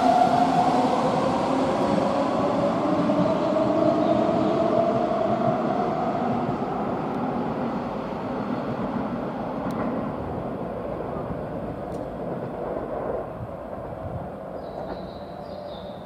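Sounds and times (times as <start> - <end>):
electric train moving away: 0.0 - 16.0.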